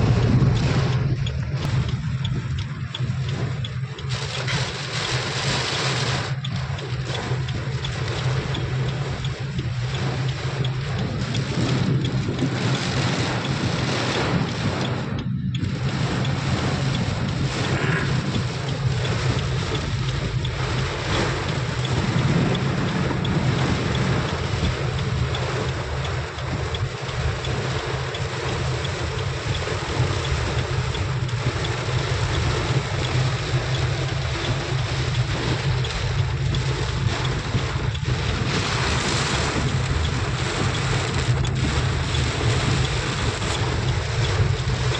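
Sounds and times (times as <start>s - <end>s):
heavy rain falling: 0.0s - 44.9s
wind rumbling on microphone: 0.0s - 44.9s.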